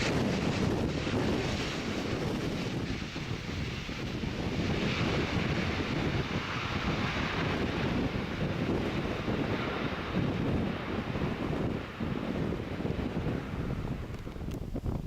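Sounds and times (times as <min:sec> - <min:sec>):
jet engine rushing: 0:00.0 - 0:15.0
wind buffeting microphone: 0:00.0 - 0:15.0.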